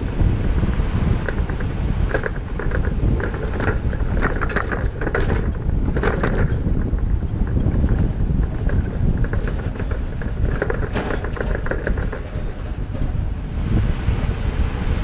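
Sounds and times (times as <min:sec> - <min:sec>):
body rattles and clicks: 0:00.0 - 0:15.0
bus engine and road rumble: 0:00.0 - 0:15.0.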